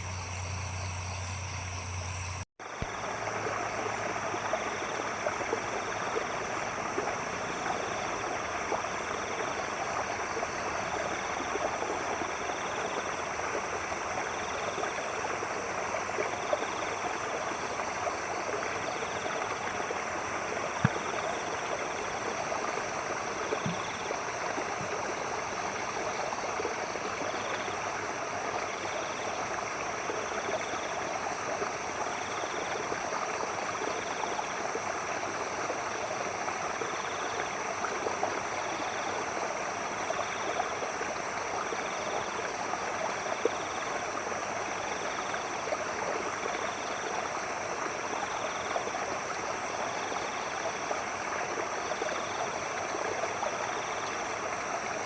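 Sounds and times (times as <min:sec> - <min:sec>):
high insect drone: 0:00.0 - 0:55.0
stream water trickling: 0:02.6 - 0:55.0.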